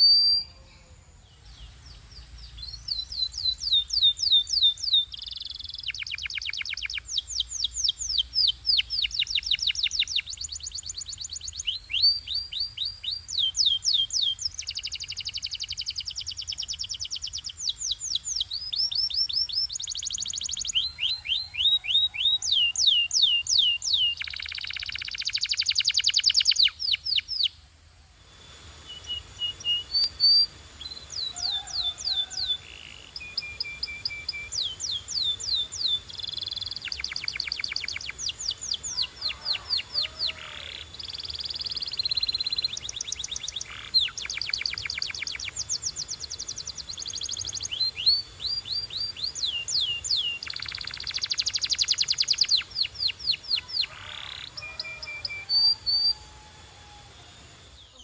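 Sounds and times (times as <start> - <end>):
canary singing trills: 0.0 - 27.6, 28.4 - 58.0.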